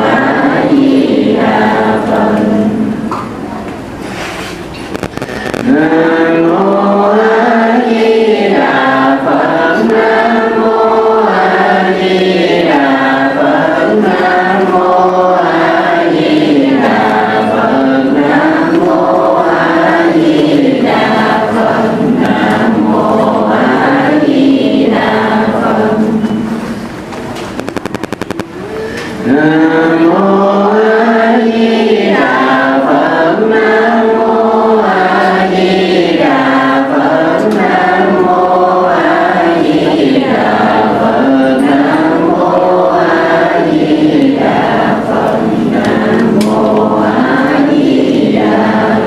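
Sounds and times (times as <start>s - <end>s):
voices chanting in unison: 0.0s - 3.0s, 5.5s - 26.5s, 29.2s - 49.0s.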